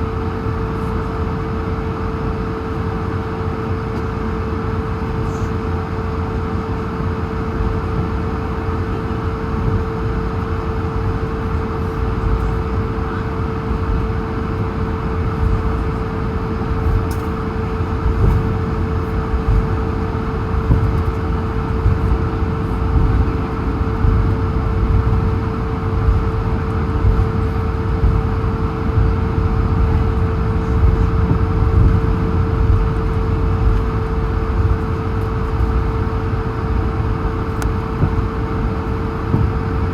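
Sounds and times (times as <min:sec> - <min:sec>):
aircraft cabin hum: 0:00.0 - 0:39.9.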